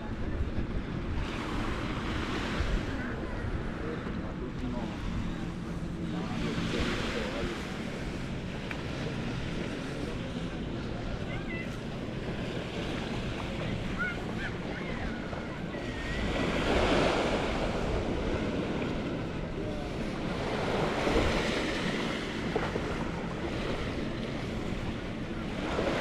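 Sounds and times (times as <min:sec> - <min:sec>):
small waves washing onto sand: 0:00.0 - 0:26.0
wind buffeting microphone: 0:00.0 - 0:26.0.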